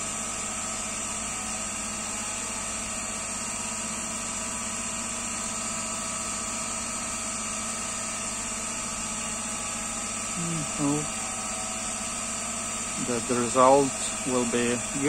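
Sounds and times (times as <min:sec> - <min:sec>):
laser engraver humming with high whine: 0:00.0 - 0:15.0.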